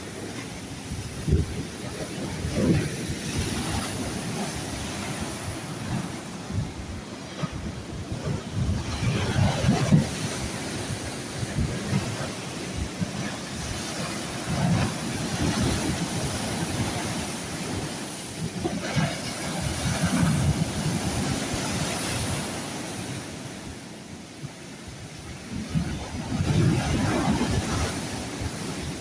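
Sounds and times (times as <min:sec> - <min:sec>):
sea waves breaking on shore: 0:00.0 - 0:29.0
wind buffeting microphone: 0:00.0 - 0:29.0.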